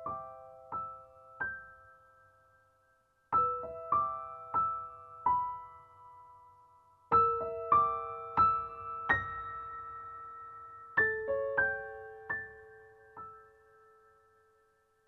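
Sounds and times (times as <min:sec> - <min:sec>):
slow soft piano: 0:00.0 - 0:15.0.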